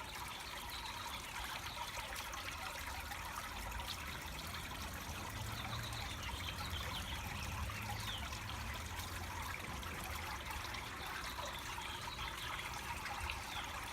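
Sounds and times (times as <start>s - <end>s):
fountain water trickling: 0.0s - 13.9s.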